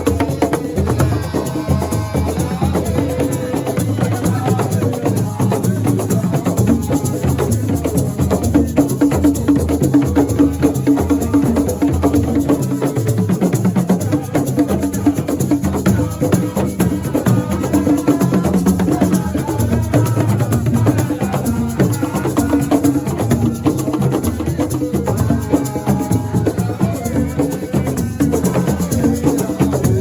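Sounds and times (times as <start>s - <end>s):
drums playing dense rhythm: 0.0s - 30.0s
shaker: 0.0s - 30.0s.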